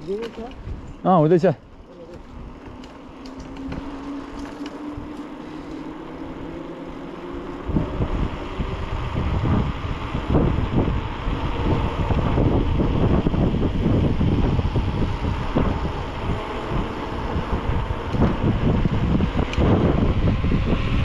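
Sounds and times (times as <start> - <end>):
wind rushing over microphone: 2.2 - 21.0.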